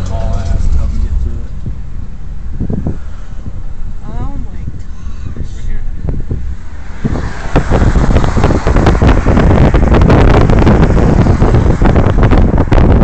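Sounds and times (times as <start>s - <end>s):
car road noise: 0.0s - 13.0s
wind buffeting microphone: 0.0s - 13.0s.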